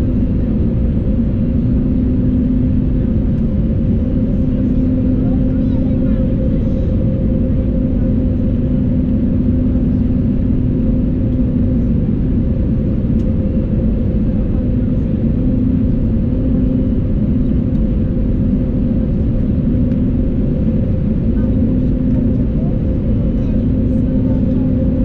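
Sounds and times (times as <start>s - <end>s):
aircraft cabin engine drone: 0.0s - 25.0s.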